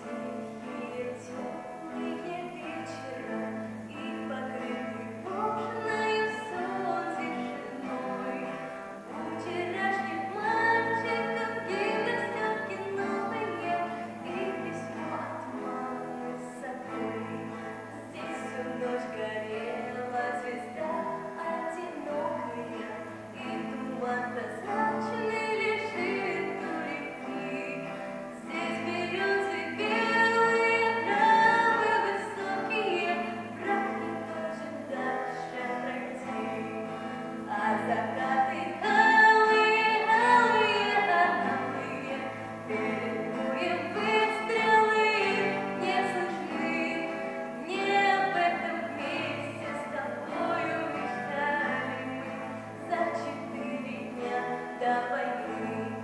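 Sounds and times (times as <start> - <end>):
children singing: 0.0 - 56.0.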